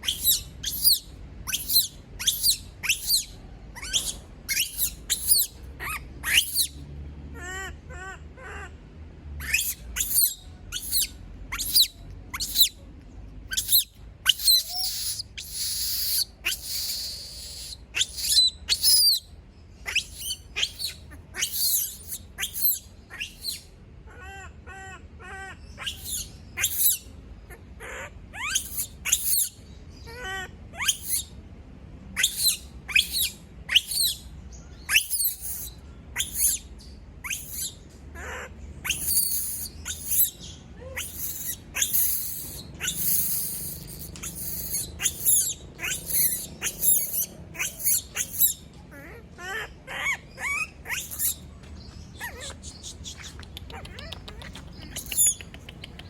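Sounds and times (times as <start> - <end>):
monkey chirping: 0.0 - 6.8, 9.4 - 12.8, 13.5 - 23.7, 25.8 - 27.1, 28.4 - 29.6, 30.2 - 31.4, 32.2 - 56.0
monkey screaming shrilly: 0.0 - 6.8, 9.4 - 12.7, 13.5 - 19.2, 19.8 - 27.1, 27.8 - 31.3, 32.2 - 34.2, 34.9 - 36.6, 37.2 - 51.4, 52.2 - 52.7.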